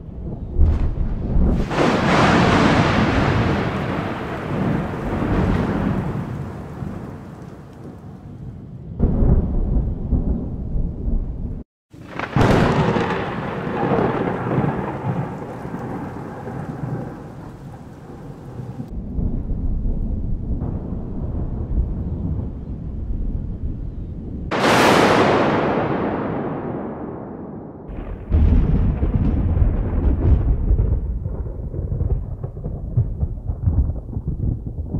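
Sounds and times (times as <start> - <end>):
rolling thunder rumble: 0.0 - 34.9
sharp close thunder crack: 0.2 - 8.0, 9.0 - 23.2, 24.4 - 34.9.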